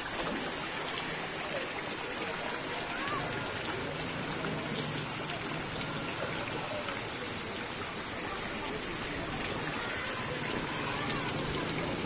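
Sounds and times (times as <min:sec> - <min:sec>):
faint voices: 0:00.0 - 0:12.0
rain and running water: 0:00.0 - 0:12.0.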